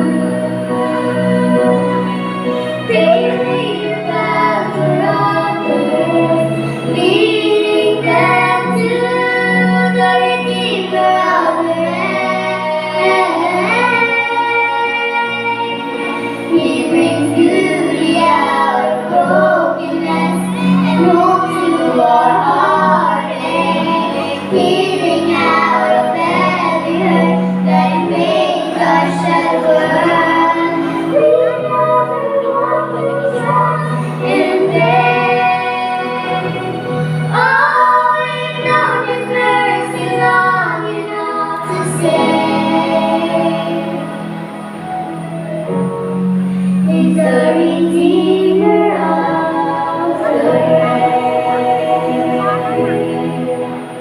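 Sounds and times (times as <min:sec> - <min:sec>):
instrumental accompaniment: 0:00.0 - 0:54.0
vocal group singing: 0:00.0 - 0:54.0.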